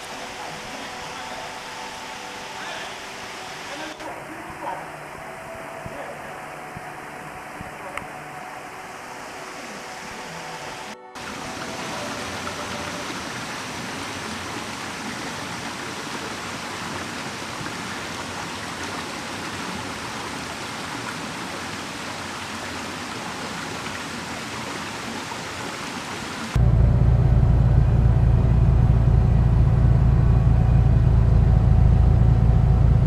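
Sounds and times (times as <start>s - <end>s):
stream water rushing over stones: 0.0s - 26.6s.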